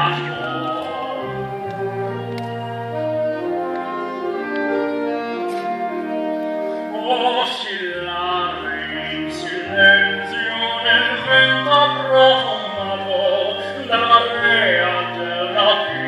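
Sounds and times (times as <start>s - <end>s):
operatic singing with vibrato: 0.0s - 16.0s
orchestral strings accompaniment: 0.0s - 16.0s.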